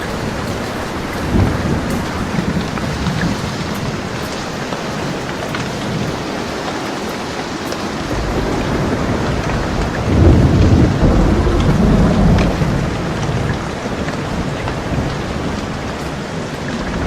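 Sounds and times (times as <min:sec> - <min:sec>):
thunder rolling: 0:00.0 - 0:06.7, 0:07.8 - 0:17.0
steady rain: 0:00.0 - 0:17.0.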